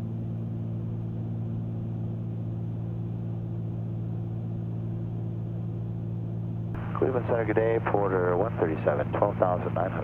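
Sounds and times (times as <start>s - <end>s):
twin piston aircraft engines droning: 0.0s - 10.0s.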